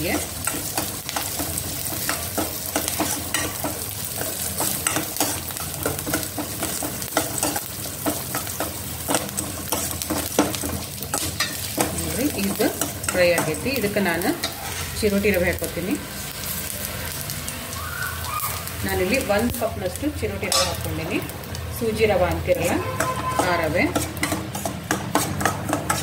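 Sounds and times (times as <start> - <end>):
spices sizzling in hot oil: 0.0 - 26.0.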